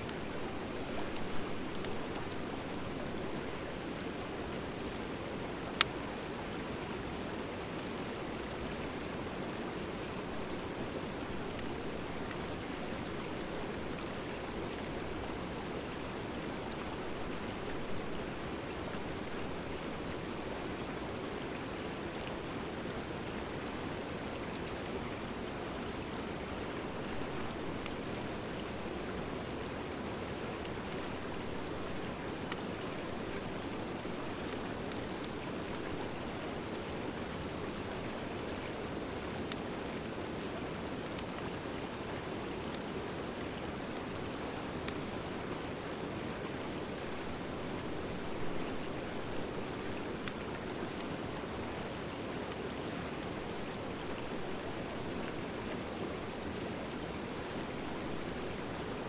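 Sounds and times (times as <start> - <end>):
fire crackles: 0.0 - 59.0.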